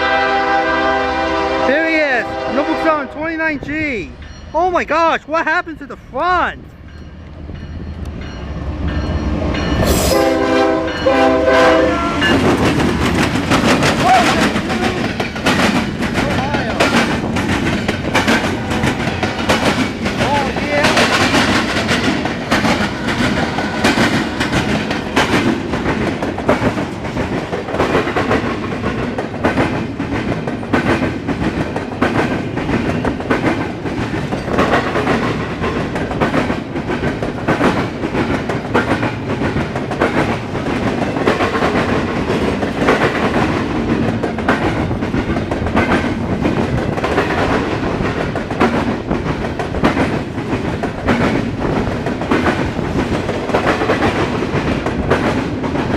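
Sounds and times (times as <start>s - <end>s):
freight train rumbling past: 0.0s - 55.9s
wheels clacking over rail joints: 10.7s - 55.9s.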